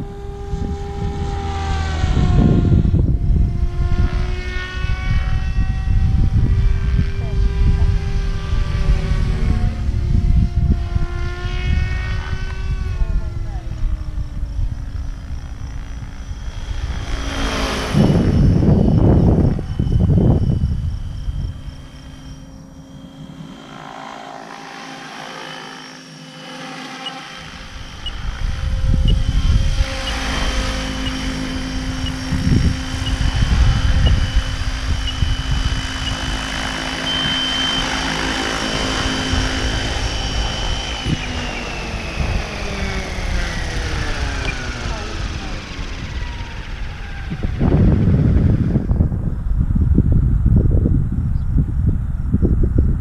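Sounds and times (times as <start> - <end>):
rc helicopter motor whine: 0.0 - 53.0.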